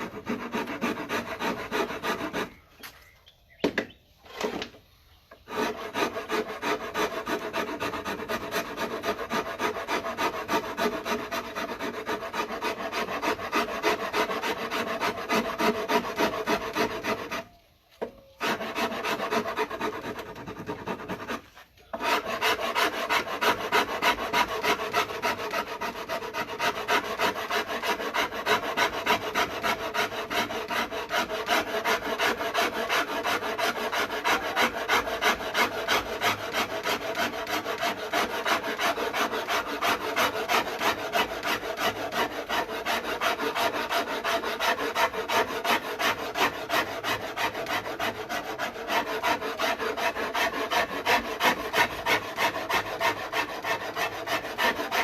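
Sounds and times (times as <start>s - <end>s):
wood rasp strokes on wood: 0.0s - 3.0s, 3.6s - 55.0s.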